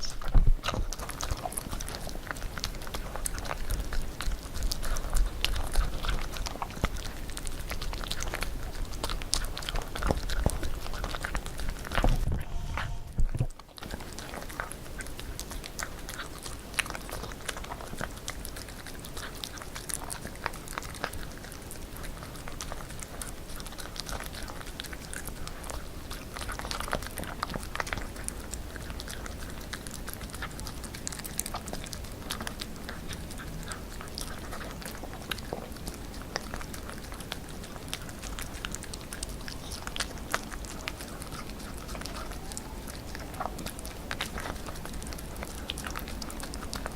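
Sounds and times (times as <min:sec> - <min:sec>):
puppy chewing: 0:00.0 - 0:46.9.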